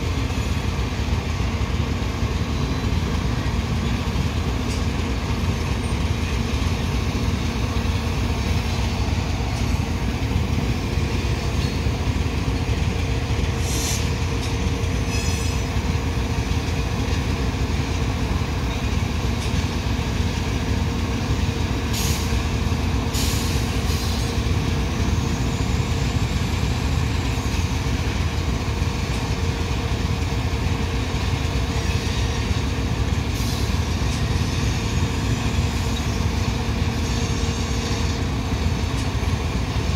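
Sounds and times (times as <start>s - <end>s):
diesel locomotive humming: 0.0s - 39.9s
train cars rumbling past: 0.0s - 39.9s.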